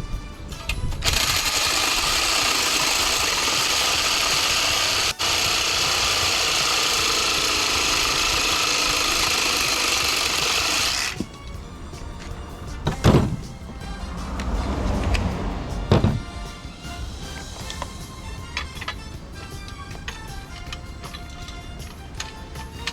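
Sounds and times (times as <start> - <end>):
battery-powered saw cutting: 0.6 - 22.9.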